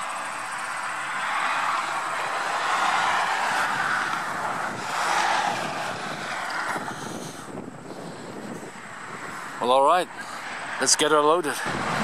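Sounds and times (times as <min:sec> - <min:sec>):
tyre noise of passing traffic: 0:00.0 - 0:12.0.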